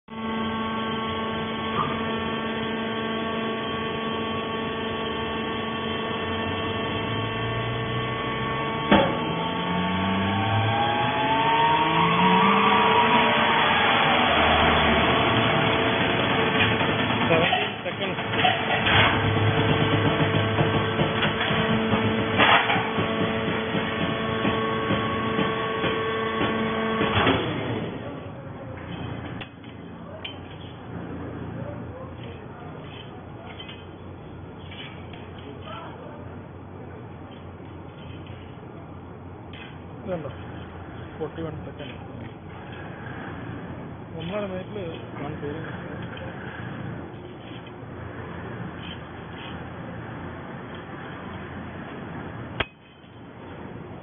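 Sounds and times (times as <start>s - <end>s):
hydraulic pump motor humming: 0.0s - 54.0s.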